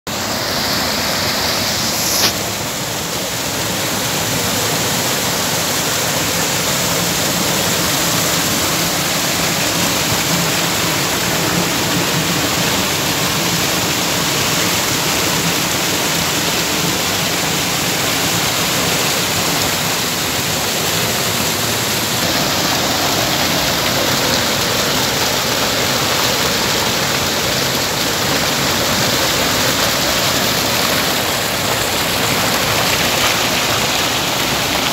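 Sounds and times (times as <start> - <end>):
fast-flowing water rushing: 0.1 - 34.9.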